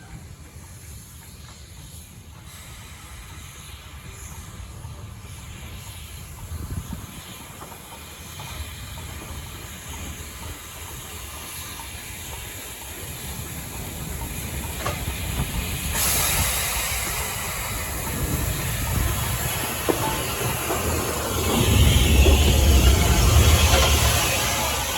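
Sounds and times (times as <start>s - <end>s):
loud steam hiss: 0.0s - 24.9s
steam locomotive rumbling: 0.0s - 24.9s.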